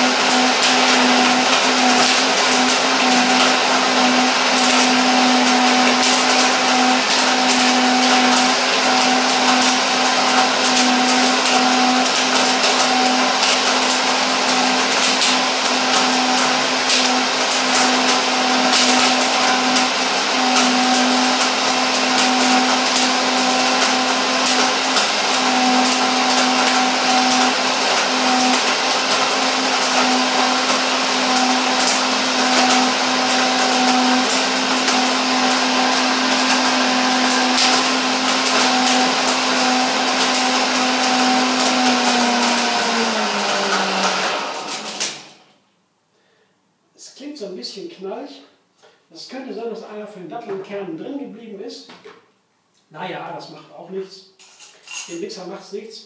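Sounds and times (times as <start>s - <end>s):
blender motor running: 0.0s - 45.5s.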